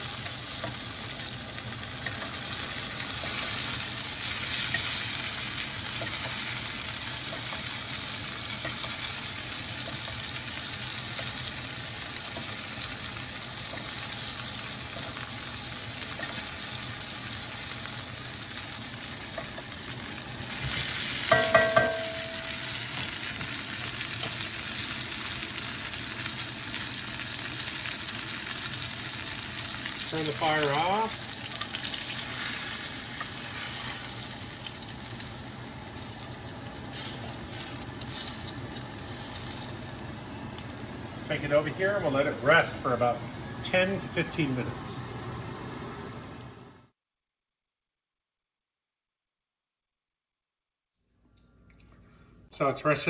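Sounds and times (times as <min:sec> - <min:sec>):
steak sizzling in butter: 0:00.0 - 0:44.8.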